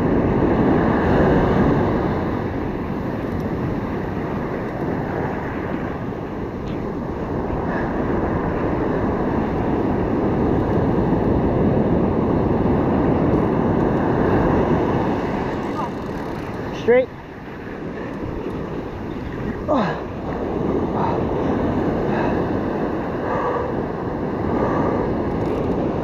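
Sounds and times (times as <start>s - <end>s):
ocean surf breaking: 0.0s - 26.0s
wind rumbling on microphone: 0.0s - 26.0s.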